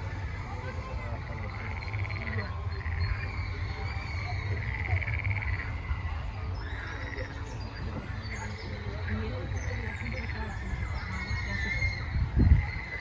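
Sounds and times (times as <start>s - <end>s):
frogs trilling: 0.0s - 13.0s
high-pitched frog chirps: 1.2s - 7.4s, 8.6s - 13.0s.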